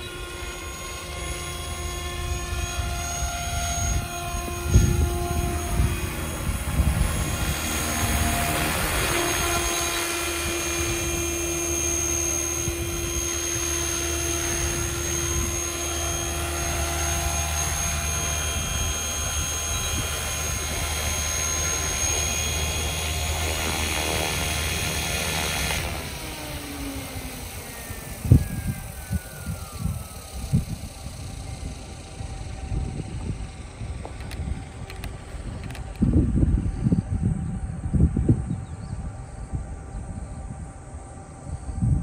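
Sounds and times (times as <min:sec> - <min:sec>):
model helicopter rotor whine: 0:00.0 - 0:42.0.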